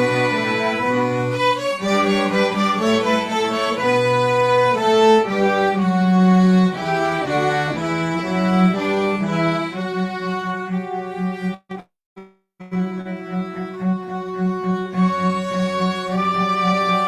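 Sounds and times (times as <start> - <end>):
string orchestra playing: 0.0 - 11.8, 12.6 - 17.0.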